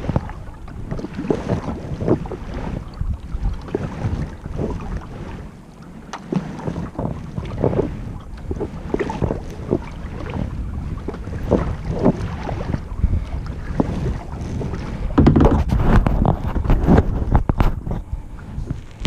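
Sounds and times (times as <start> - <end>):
paddle splashing in water: 0.0 - 19.0
wind buffeting microphone: 0.0 - 19.0.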